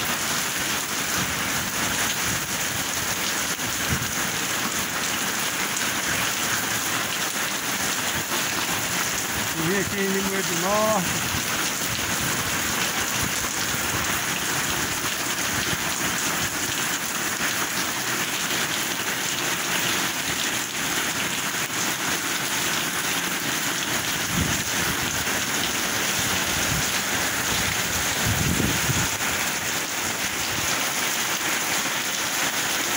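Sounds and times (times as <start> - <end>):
heavy rain on pavement: 0.0 - 32.9.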